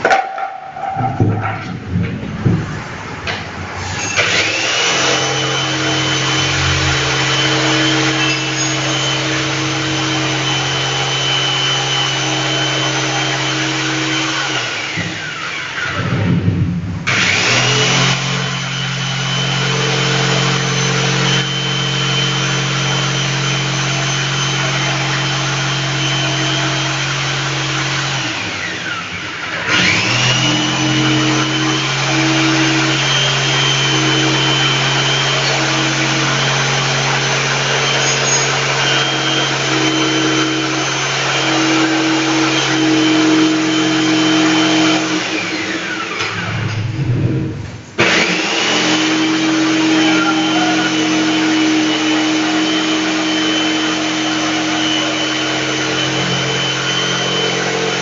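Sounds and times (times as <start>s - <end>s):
electric jigsaw cutting: 3.8s - 16.1s, 17.1s - 46.6s, 48.0s - 58.0s.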